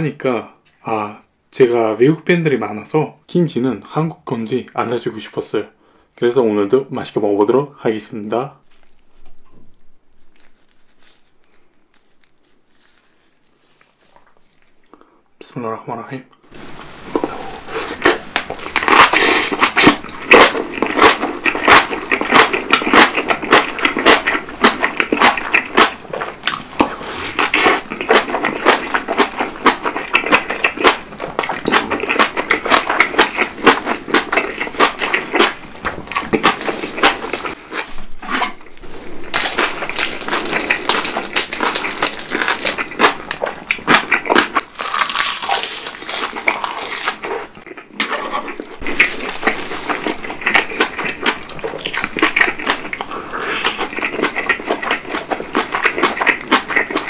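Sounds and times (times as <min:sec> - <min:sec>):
close chewing and crunching: 0:08.6 - 0:15.0, 0:16.9 - 0:57.0.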